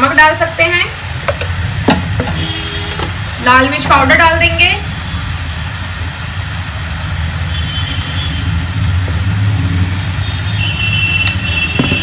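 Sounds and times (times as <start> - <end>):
oil and spices sizzling: 0.0 - 12.0.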